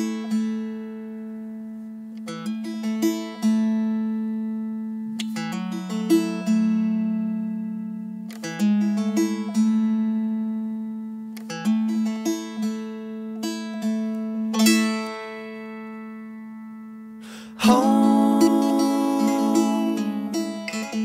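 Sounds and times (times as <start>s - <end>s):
acoustic guitar chords strummed: 0.0s - 21.0s.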